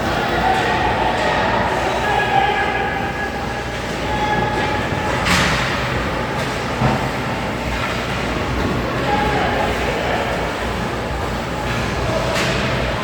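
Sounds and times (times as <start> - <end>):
echoing rumble of hockey play: 0.0 - 13.0.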